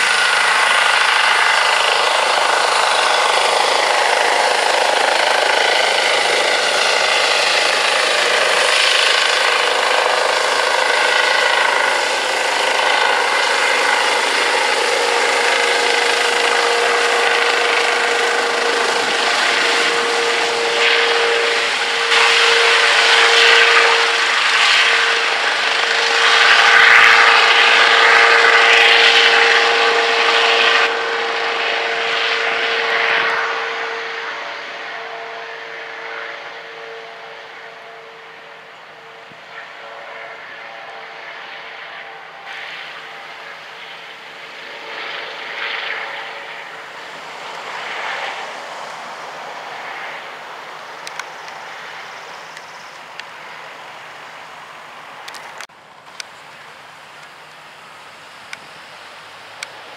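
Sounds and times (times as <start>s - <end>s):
helicopter turbine whine and rotor: 0.0s - 59.9s.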